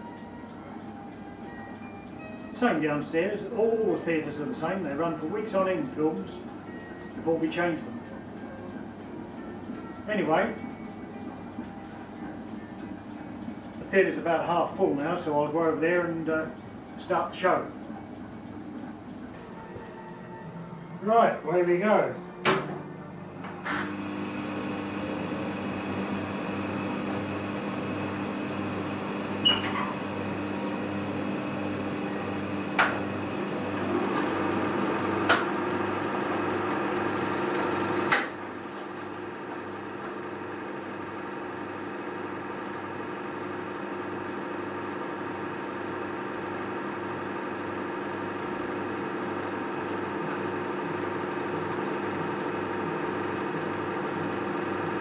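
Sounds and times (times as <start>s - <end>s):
film projector humming: 0.0s - 55.0s.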